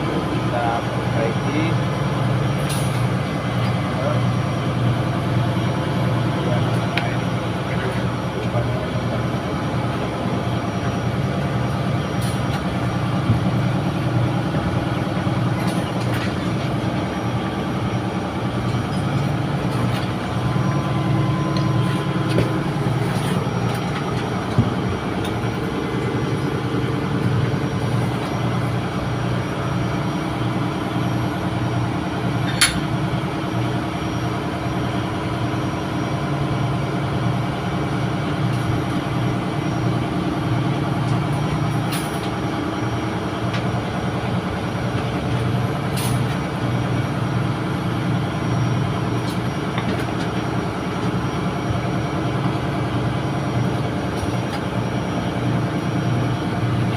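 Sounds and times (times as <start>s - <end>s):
engine-room machinery drone: 0.0s - 56.9s.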